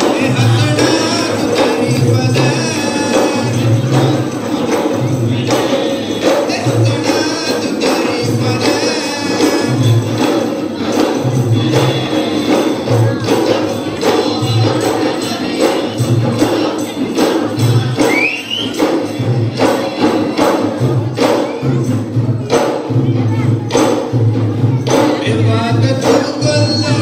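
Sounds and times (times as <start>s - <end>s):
group of voices singing: 0.0s - 27.0s
hand drums beating fast rhythm: 0.0s - 27.0s.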